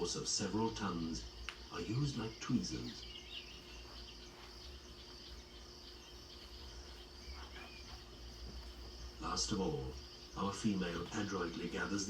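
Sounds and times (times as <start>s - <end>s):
faint bird chirp: 0.0s - 12.0s
insect buzz: 0.0s - 12.0s
steady low hum: 0.0s - 12.0s.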